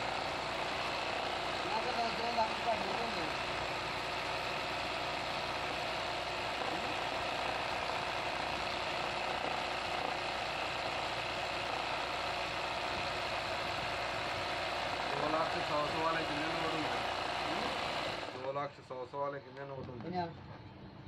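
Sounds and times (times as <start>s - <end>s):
sewing machine running: 0.0s - 18.4s.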